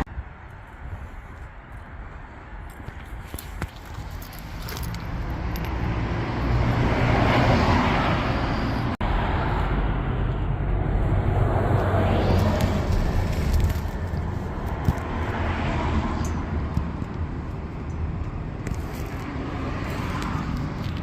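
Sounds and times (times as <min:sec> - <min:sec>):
motor vehicle running: 0:02.7 - 0:21.0.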